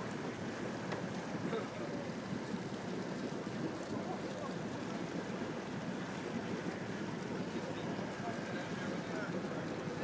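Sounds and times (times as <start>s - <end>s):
boat engine idling: 0.0s - 10.0s.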